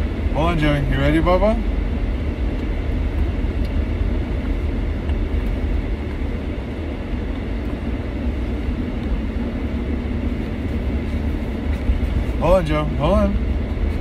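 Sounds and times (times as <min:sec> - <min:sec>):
low rumble inside car: 0:00.0 - 0:14.0.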